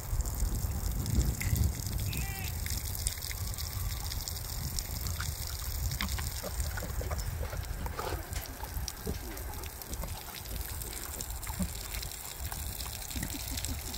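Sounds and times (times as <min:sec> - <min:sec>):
pigs chewing watermelon rind: 0:00.2 - 0:13.9.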